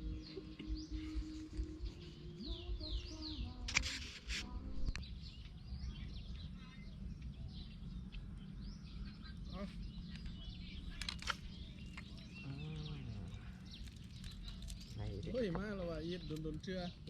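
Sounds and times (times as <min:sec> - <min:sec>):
faint low background tones: 0:00.0 - 0:17.0
small birds chirping: 0:00.0 - 0:17.0.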